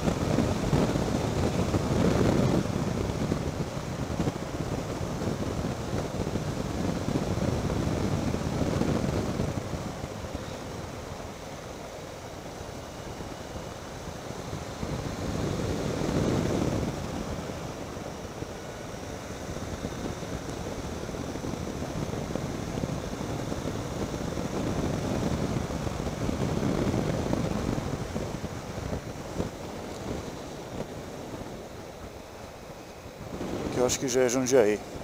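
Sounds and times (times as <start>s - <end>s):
motorcycle running and tyre noise: 0.0s - 35.0s
wind rushing over microphone: 0.0s - 35.0s.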